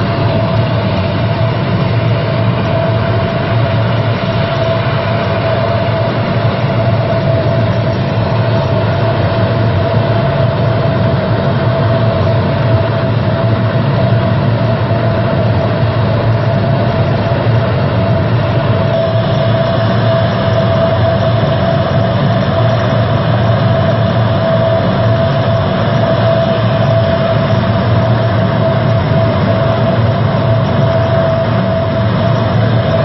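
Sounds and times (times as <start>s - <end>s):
high engine whine: 0.0s - 33.0s
turboprop aircraft engine drone: 0.0s - 33.0s.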